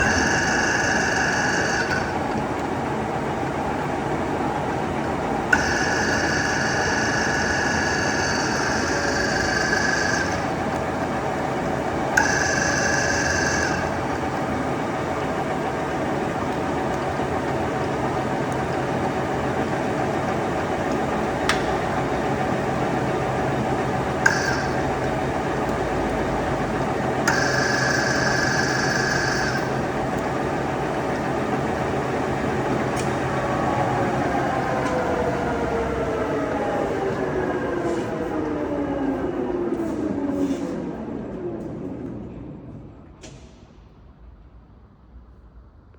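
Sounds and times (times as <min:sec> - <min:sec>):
high-pitched whine: 0:00.0 - 0:16.5, 0:21.9 - 0:43.2
lathe humming: 0:00.0 - 0:40.3.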